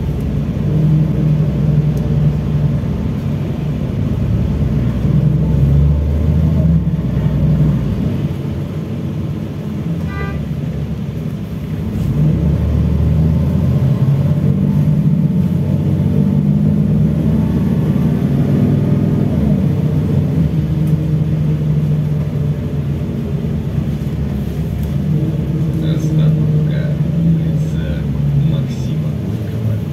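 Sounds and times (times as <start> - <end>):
bus engine and drivetrain rumble: 0.0 - 29.9.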